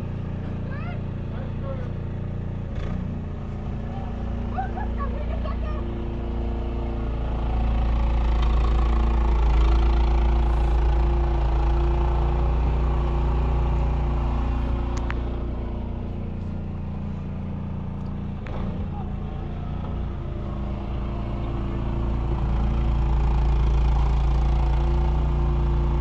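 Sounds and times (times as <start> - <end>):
snowblower engine running: 0.0 - 26.0.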